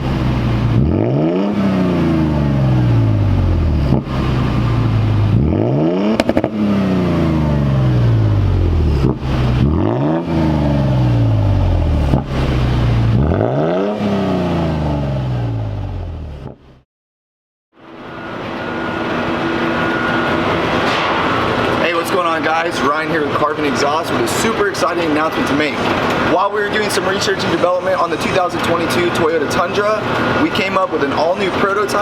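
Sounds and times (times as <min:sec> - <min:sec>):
car engine revving: 0:00.0 - 0:16.8, 0:17.9 - 0:32.0.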